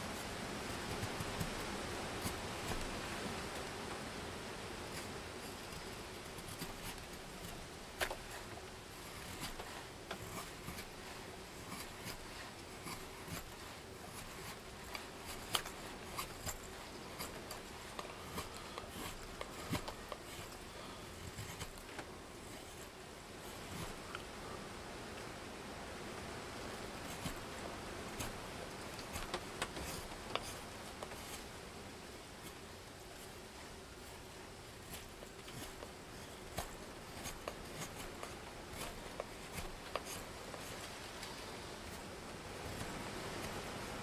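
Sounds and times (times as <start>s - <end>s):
knife scraping wood: 0.0s - 24.6s, 26.4s - 44.0s
background hiss: 0.0s - 44.0s.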